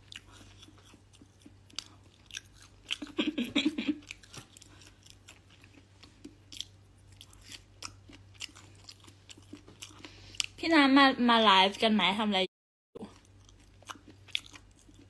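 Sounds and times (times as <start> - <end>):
person chewing crunchy food: 0.0 - 10.6, 13.0 - 15.0.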